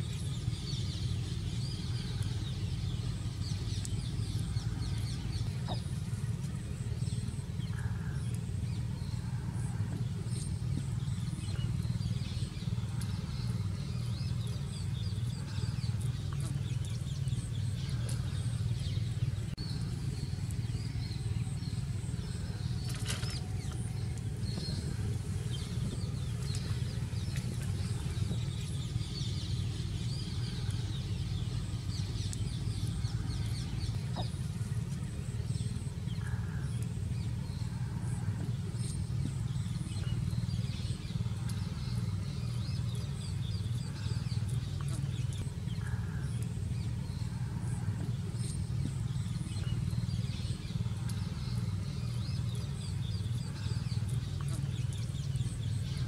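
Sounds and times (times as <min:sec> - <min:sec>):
small birds chirping faintly: 0:00.0 - 0:56.0
steady low rumble: 0:00.0 - 0:56.0.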